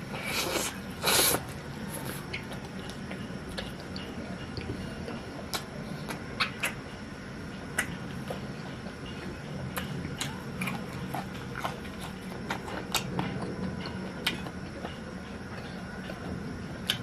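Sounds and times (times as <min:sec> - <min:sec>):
steady low hum: 0:00.0 - 0:17.0
person chewing food: 0:00.1 - 0:17.0.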